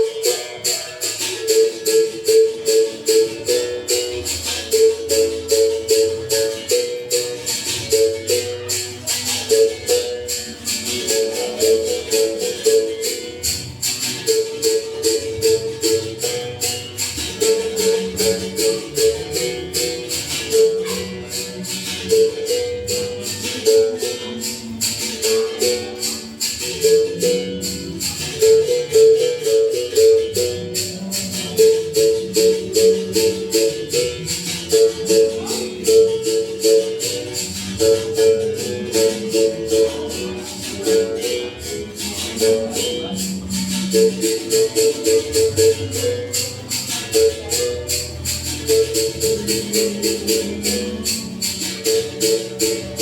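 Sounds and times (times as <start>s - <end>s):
berimbau played in rhythm: 0.0s - 53.0s
caxixi rattle shaking: 0.0s - 53.0s.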